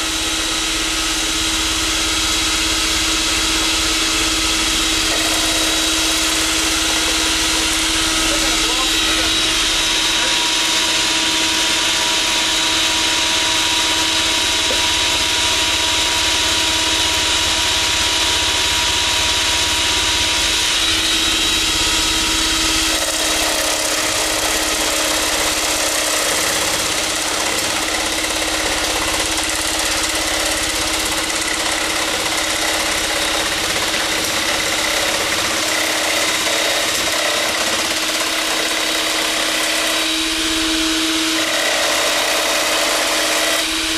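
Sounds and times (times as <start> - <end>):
wood router cutting wood: 0.0 - 43.9.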